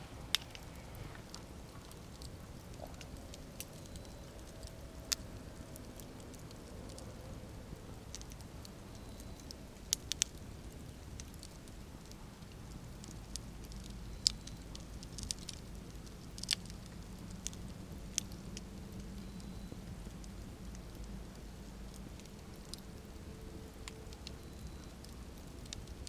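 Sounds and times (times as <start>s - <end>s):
campfire crackling: 0.0s - 26.0s
fire popping and snapping: 0.0s - 26.0s
low rumble of burning fire: 0.0s - 26.0s.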